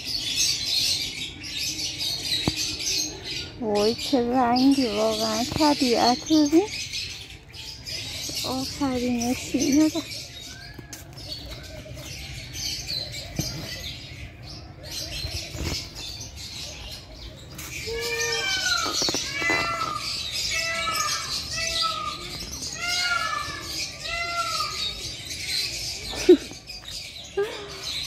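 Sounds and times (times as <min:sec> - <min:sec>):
birds chirping and chattering: 0:00.0 - 0:28.0.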